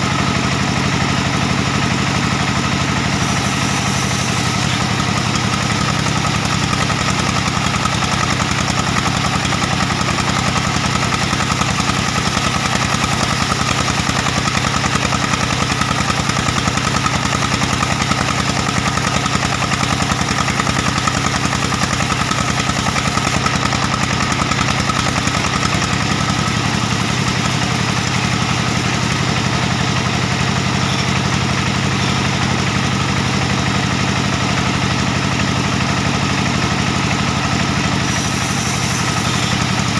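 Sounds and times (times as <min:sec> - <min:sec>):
diesel engine with fast knock: 0:00.0 - 0:39.9.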